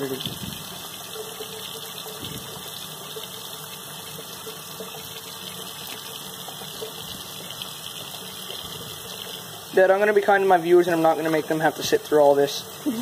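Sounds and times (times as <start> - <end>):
faucet running into sink: 0.0 - 13.0.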